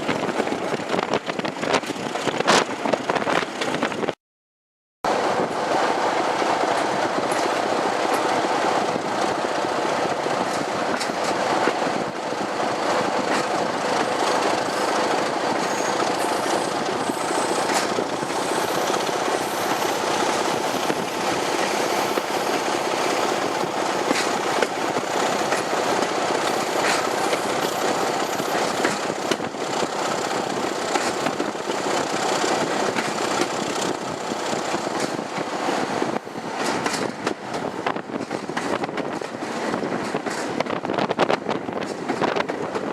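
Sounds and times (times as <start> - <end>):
train clatter and clicks: 0.0 - 4.2, 5.1 - 42.9
train wheels rumbling on rail: 0.0 - 4.2, 5.1 - 42.9.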